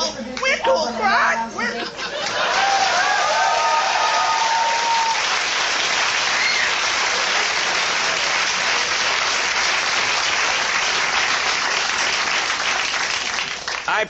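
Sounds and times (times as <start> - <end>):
audience applauding: 2.1 - 14.0.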